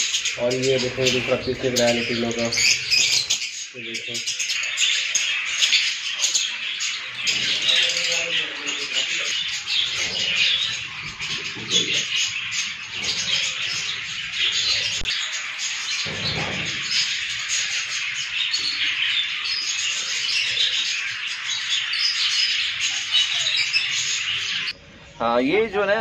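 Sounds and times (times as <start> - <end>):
budgerigars chattering and chirping: 0.0 - 24.8.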